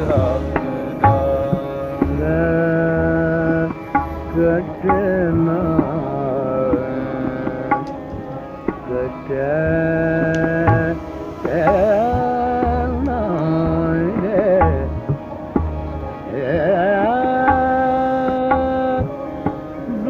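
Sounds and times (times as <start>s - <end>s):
person singing ornamented phrases: 0.0s - 8.0s, 8.9s - 15.0s, 16.3s - 20.0s
harmonium playing a melody: 0.0s - 20.0s
tabla strokes: 0.0s - 20.0s.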